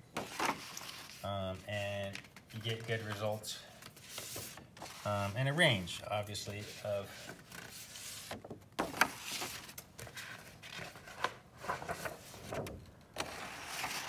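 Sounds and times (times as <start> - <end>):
paper sheets rustling: 0.2 - 14.0.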